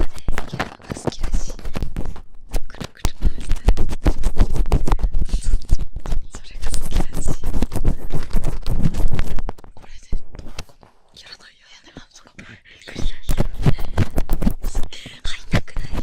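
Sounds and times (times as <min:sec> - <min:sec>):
earpick scratching microphone: 0:00.0 - 0:11.1, 0:11.8 - 0:16.0.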